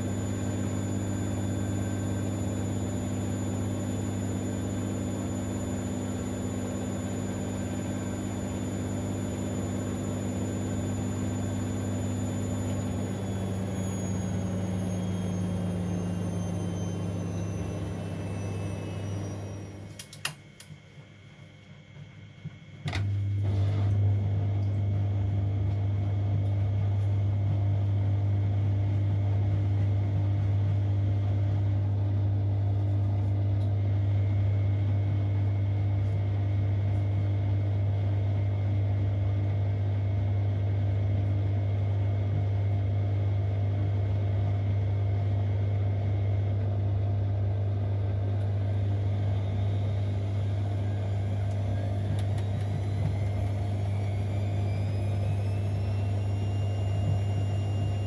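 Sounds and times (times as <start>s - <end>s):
washing machine pump humming: 0.0s - 21.4s, 22.4s - 58.0s.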